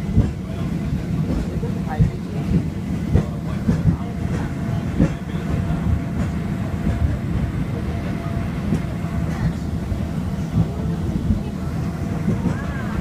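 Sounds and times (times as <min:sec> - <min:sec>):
tram rumbling on rails: 0:00.0 - 0:13.0.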